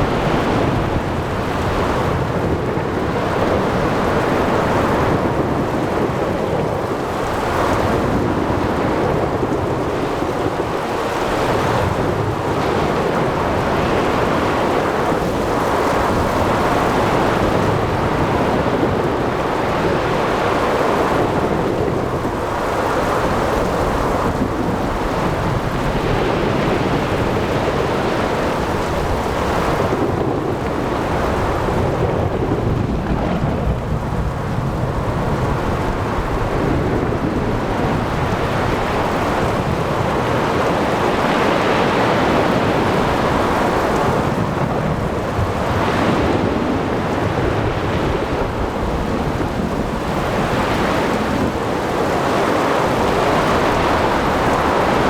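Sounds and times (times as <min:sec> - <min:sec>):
heavy rain: 0:00.0 - 0:55.0
surf: 0:00.0 - 0:55.0.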